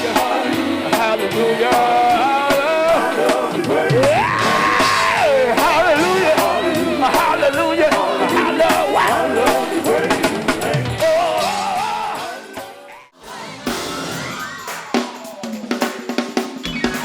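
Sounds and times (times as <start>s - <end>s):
gospel band playing: 0.0s - 12.5s, 13.2s - 17.0s
person singing: 0.0s - 15.8s
drums: 0.0s - 17.0s.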